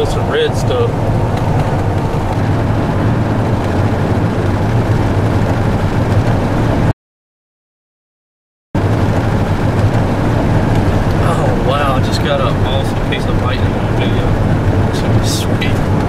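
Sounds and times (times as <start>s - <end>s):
road and engine noise inside car: 0.0s - 6.9s, 8.8s - 16.0s.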